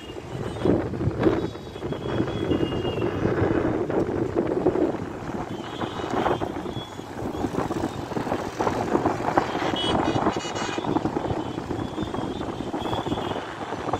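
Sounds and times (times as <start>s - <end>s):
busy road traffic: 0.0s - 13.9s.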